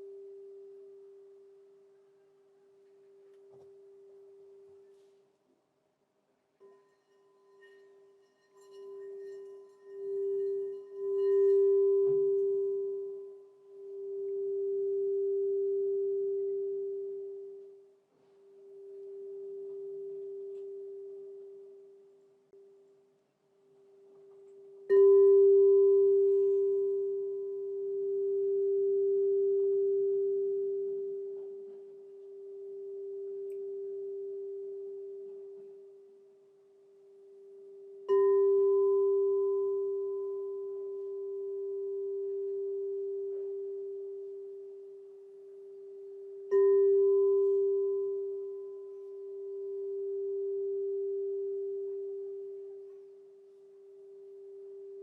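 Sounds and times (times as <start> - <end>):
crystal singing bowl ringing: 6.6 - 22.2, 24.0 - 55.0.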